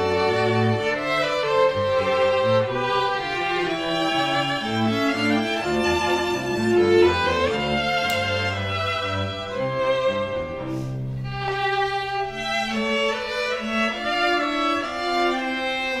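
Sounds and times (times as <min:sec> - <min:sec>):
bowed strings music: 0:00.0 - 0:16.0.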